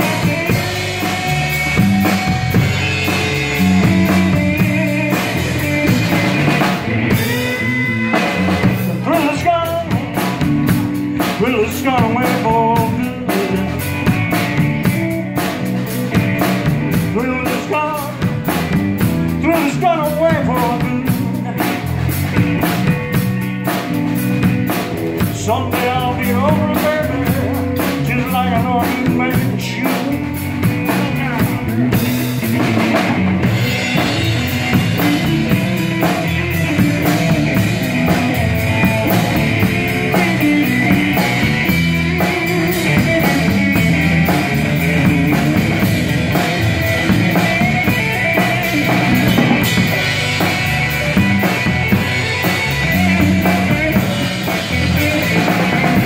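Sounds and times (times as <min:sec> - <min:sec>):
electric lead guitar bending notes: 0:00.0 - 0:56.0
live blues band playing: 0:00.0 - 0:56.0.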